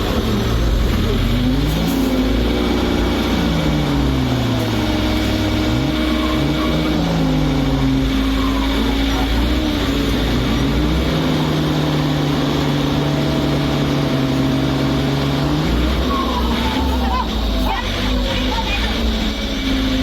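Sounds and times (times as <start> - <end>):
truck diesel engine revving: 0.0 - 20.0.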